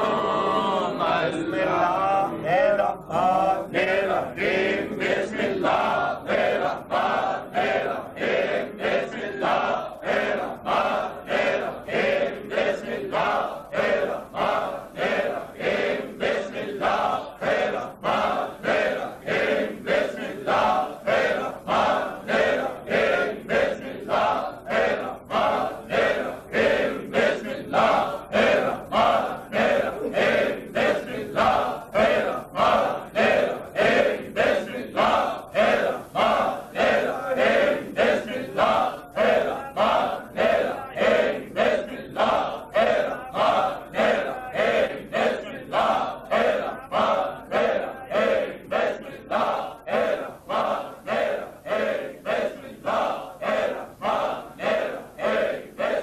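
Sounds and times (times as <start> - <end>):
group of men chanting: 0.0 - 56.0.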